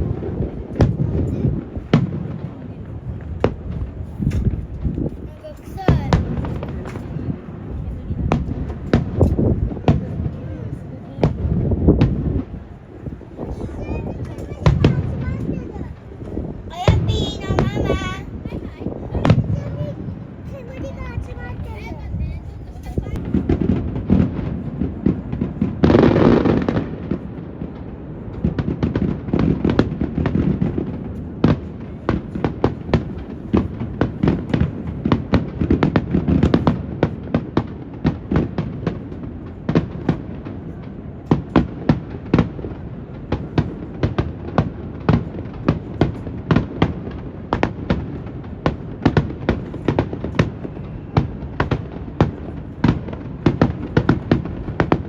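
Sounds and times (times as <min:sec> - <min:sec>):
fireworks bangs and crackles: 0:00.0 - 0:55.0
wind rumble on microphone: 0:00.0 - 0:55.0.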